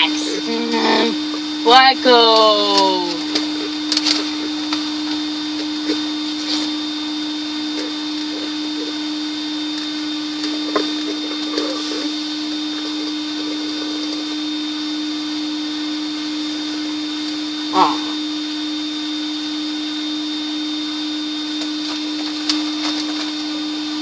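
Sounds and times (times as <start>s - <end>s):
faint high whine and hiss: 0.0s - 24.0s
low electrical buzz: 0.0s - 24.0s.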